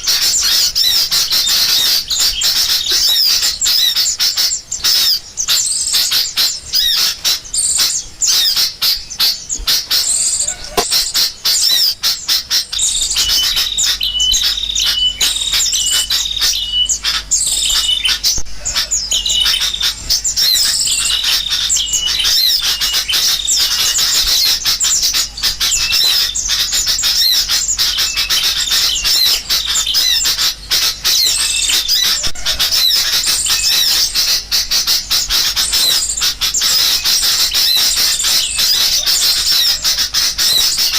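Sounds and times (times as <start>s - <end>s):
flock of bulbuls calling: 0.0s - 40.9s
small birds chirping: 0.0s - 40.9s.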